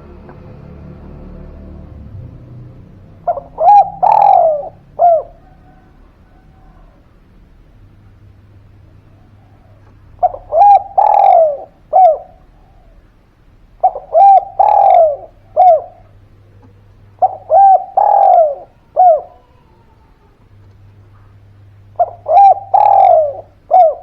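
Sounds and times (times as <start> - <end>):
dove cooing: 3.0 - 7.4, 8.8 - 24.0.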